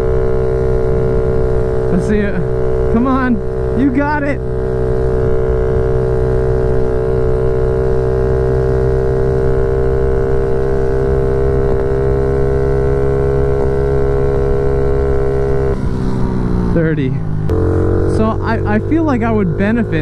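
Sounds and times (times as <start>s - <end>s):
motorbike engine at high revs: 0.0s - 20.0s.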